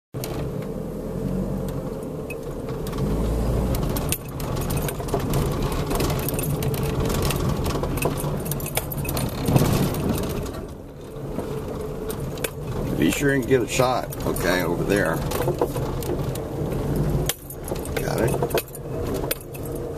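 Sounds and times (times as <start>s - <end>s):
car engine and tyre rumble: 0.1s - 19.9s
rattles and knocks in car: 1.9s - 19.9s.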